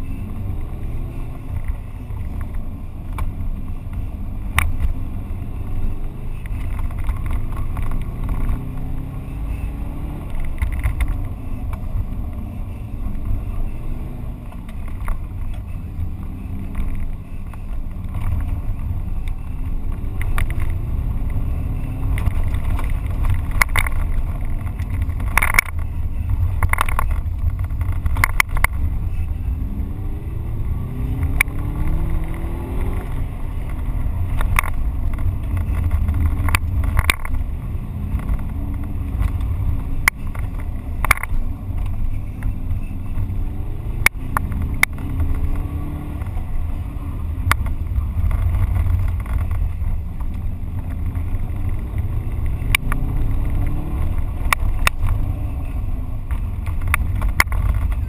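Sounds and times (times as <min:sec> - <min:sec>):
car engine accelerating hard: 0:00.0 - 0:58.0
road and tyre rumble: 0:00.0 - 0:58.0.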